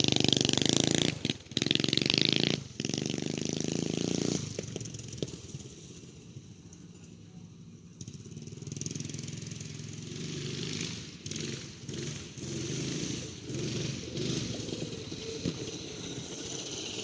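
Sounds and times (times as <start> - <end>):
minibike engine revving: 0.0 - 6.4, 8.0 - 17.0.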